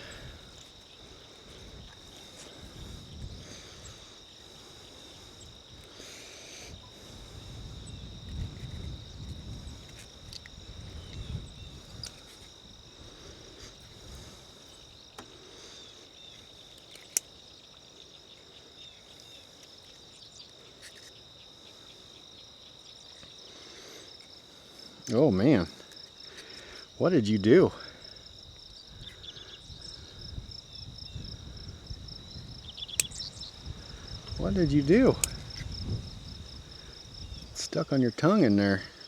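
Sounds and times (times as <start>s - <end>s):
insects chirring: 0.0s - 39.0s.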